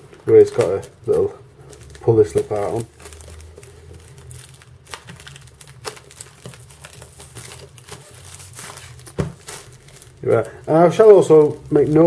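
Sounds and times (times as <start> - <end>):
cellophane wrap crinkling: 0.0 - 12.0.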